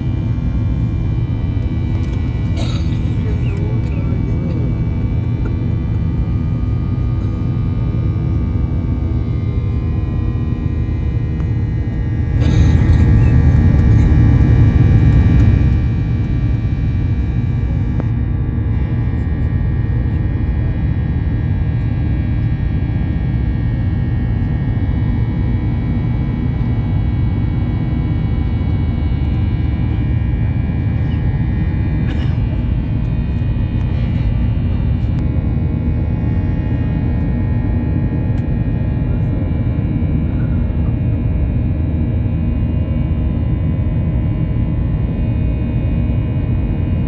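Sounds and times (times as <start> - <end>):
jet cabin engine rumble: 0.0 - 47.0.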